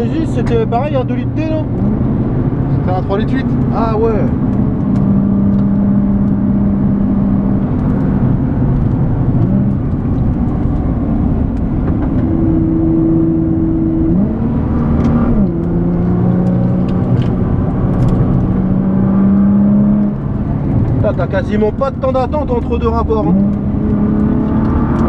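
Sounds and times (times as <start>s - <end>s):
car engine revving: 0.0s - 25.0s
engine note shifting gears: 0.0s - 25.0s.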